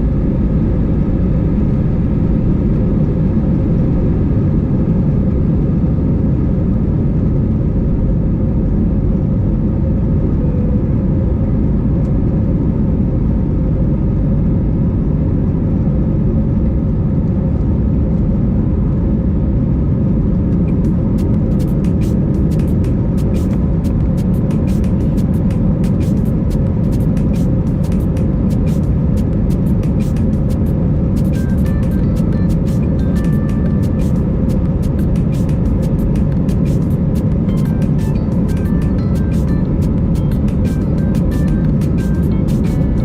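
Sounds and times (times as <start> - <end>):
jet engines rumbling in cabin: 0.0 - 43.0.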